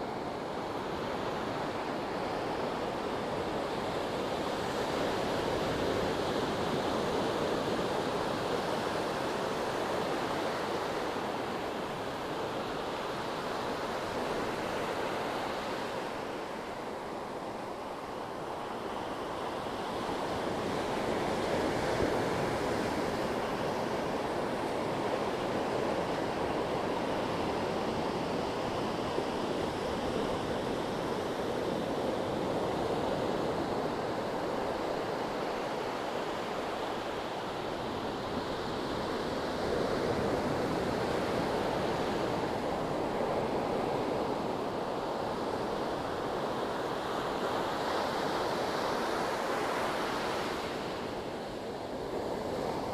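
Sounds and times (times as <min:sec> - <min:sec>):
sea waves washing ashore: 0:00.0 - 0:52.9.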